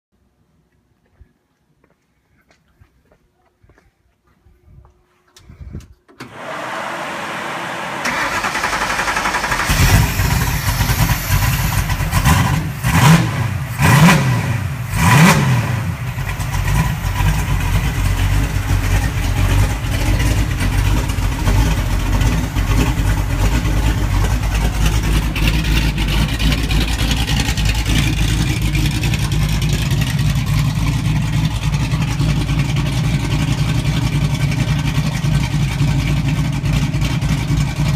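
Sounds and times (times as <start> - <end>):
engine starting and revving: 6.2 - 37.9
engine idling: 6.3 - 37.9.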